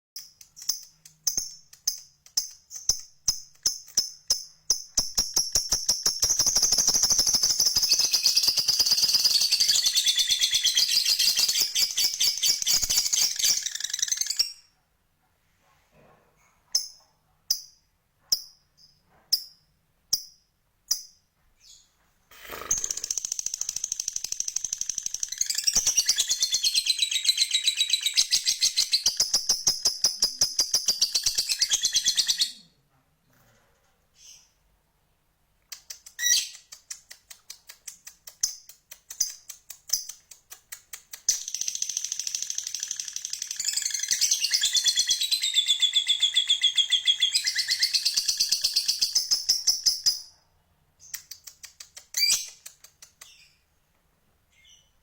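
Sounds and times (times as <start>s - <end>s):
lovebird chirping: 0.2s - 14.7s, 16.7s - 32.7s, 34.2s - 34.6s, 35.8s - 37.0s, 41.2s - 50.3s, 51.0s - 53.6s, 54.5s - 55.0s.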